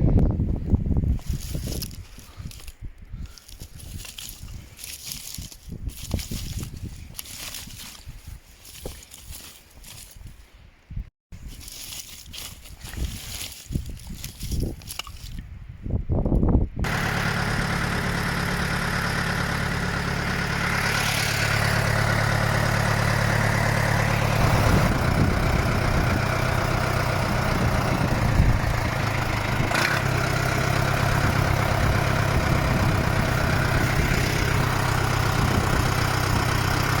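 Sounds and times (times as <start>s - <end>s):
tractor engine running: 0.0s - 10.3s, 16.8s - 37.0s.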